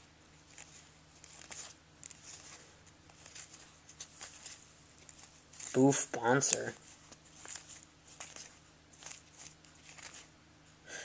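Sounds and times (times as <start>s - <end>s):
trading cards rustling and clicking: 0.4s - 10.3s.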